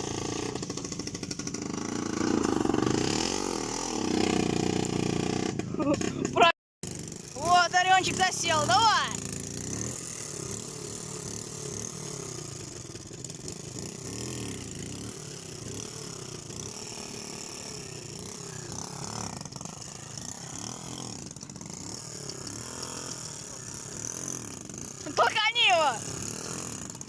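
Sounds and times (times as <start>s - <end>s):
quad engine revving unevenly: 0.0s - 27.0s.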